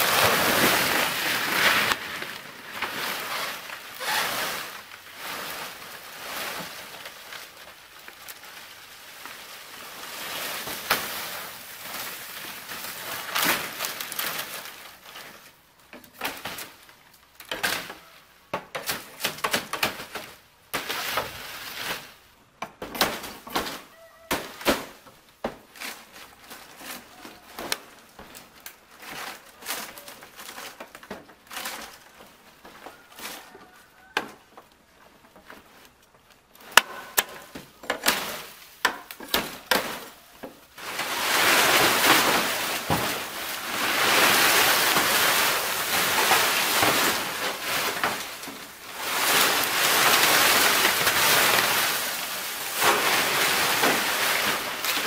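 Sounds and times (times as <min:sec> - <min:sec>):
dry palm leaves crackling: 0:00.0 - 0:55.0.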